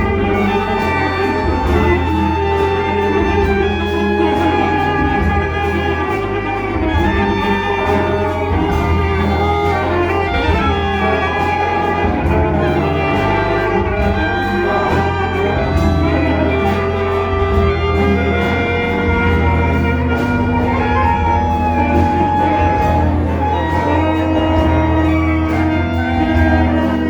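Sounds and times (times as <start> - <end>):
ensemble playing held tones: 0.0 - 27.0
steady low bass: 0.0 - 27.0.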